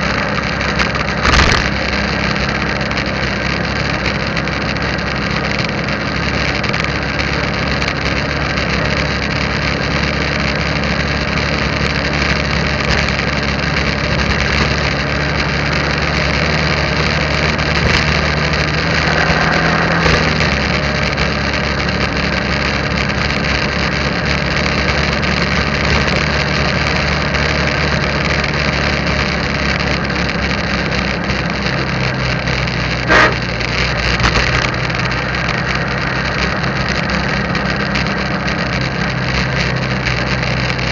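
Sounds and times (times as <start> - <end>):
motorbike engine running: 0.0 - 40.9
wind and road noise: 0.0 - 40.9.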